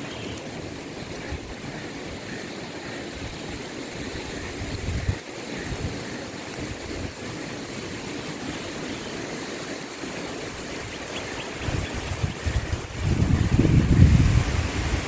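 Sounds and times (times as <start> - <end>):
wind in palm trees: 0.0 - 15.0.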